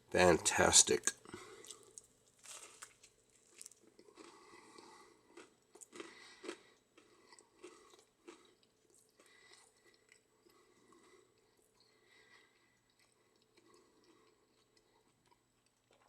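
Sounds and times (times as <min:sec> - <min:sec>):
chewing crispy food: 0:01.2 - 0:16.0.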